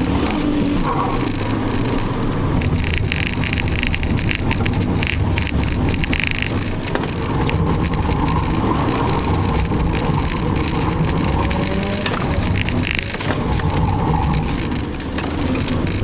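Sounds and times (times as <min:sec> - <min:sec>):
car engine revving: 0:00.0 - 0:16.0
tyre and road noise: 0:00.0 - 0:16.0.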